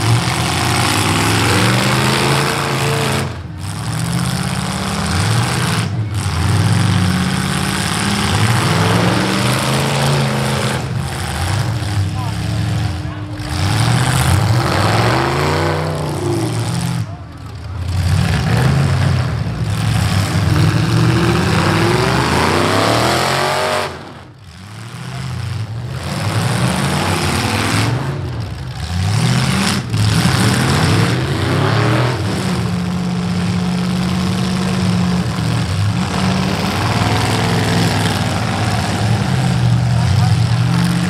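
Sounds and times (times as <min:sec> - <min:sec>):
car engines revving hard: 0:00.0 - 0:41.0.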